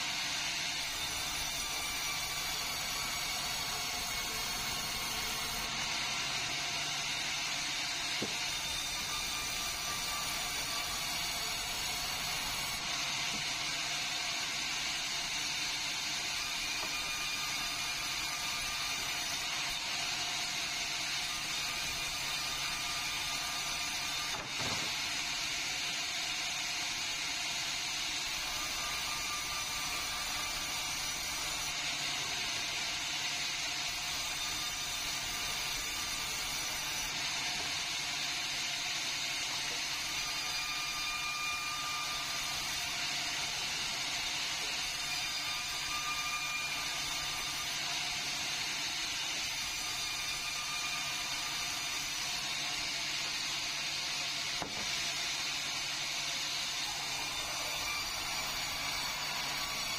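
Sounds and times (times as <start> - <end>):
band saw cutting log: 0.0 - 59.9.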